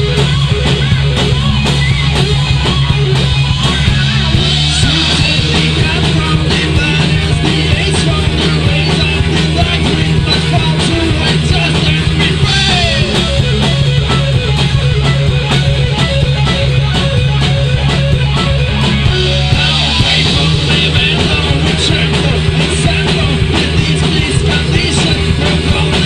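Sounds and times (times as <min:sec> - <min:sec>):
bass and drums: 0:00.0 - 0:26.0
electric guitar: 0:00.0 - 0:26.0.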